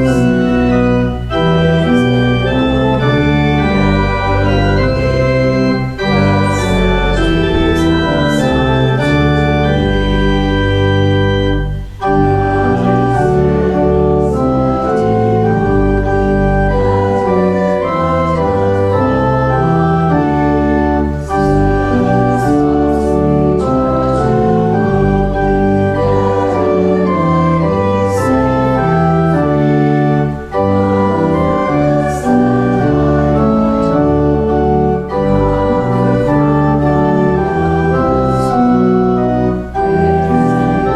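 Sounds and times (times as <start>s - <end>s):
church organ chords: 0.0s - 40.9s.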